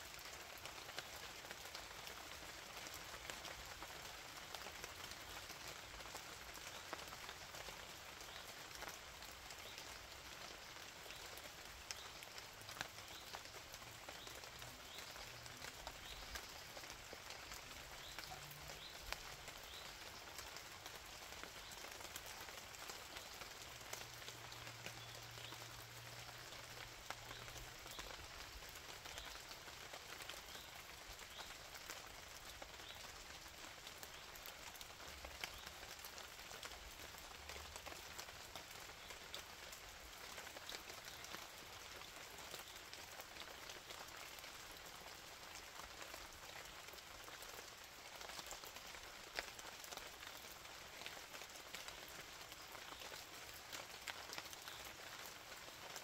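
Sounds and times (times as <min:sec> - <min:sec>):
faint steady rain: 0:00.0 - 0:56.0.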